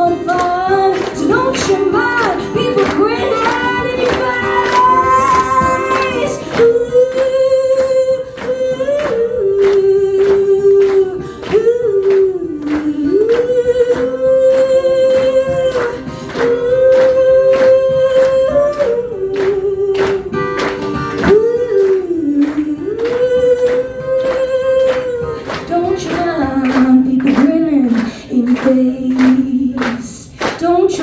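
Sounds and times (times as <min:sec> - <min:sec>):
woman singing wordless melody: 0:00.0 - 0:31.0.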